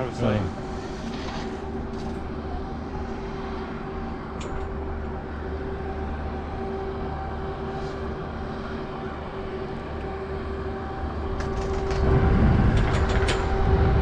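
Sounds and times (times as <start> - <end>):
chairlift machine hum: 0.0 - 14.0.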